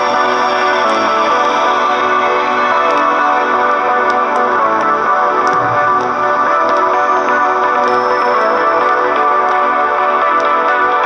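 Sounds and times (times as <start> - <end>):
guitar music through small speaker: 0.0 - 11.0.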